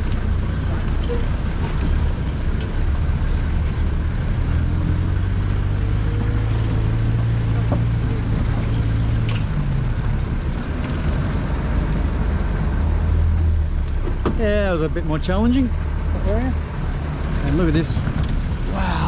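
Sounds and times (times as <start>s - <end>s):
vehicle engine under load: 0.0s - 19.0s.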